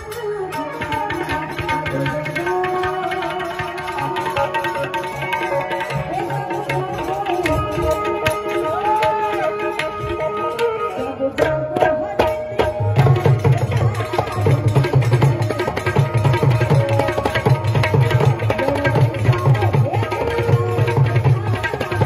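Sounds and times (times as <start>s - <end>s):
fast tabla drumming: 0.0s - 22.0s.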